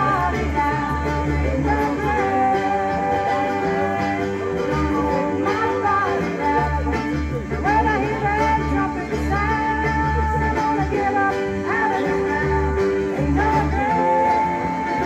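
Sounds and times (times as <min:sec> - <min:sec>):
acoustic guitar: 0:00.0 - 0:15.0
mandolin: 0:00.0 - 0:15.0
person singing: 0:00.0 - 0:15.0.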